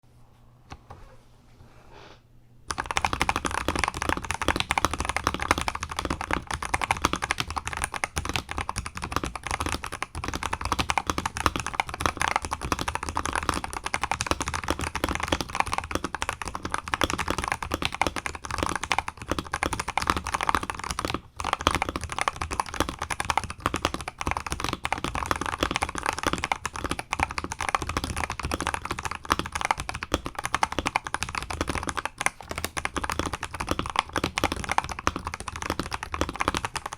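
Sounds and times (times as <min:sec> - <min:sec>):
fast mechanical keyboard typing: 0:02.7 - 0:36.9.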